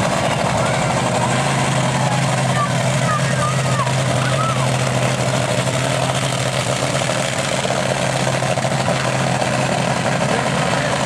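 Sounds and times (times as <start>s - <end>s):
monster truck engine running: 0.0s - 11.0s.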